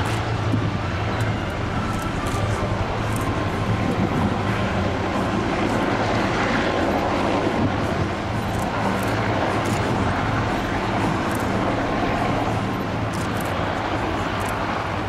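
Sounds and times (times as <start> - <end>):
helicopters flying: 0.0 - 15.0
wind noise on microphone: 0.0 - 15.0.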